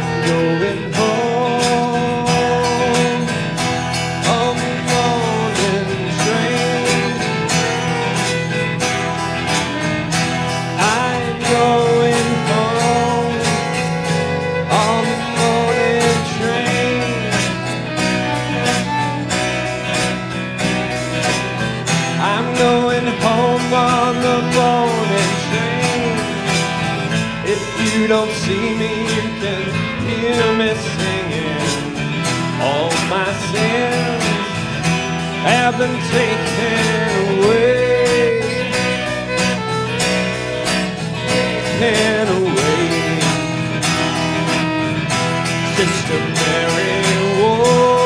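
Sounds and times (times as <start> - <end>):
sliding lead melody: 0.0 - 48.0
strummed acoustic guitar: 0.0 - 48.0.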